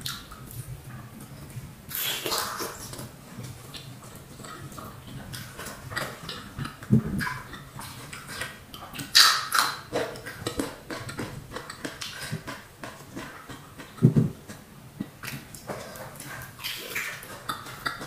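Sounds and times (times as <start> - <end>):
wet chewing and lip smacks: 0.0 - 18.0.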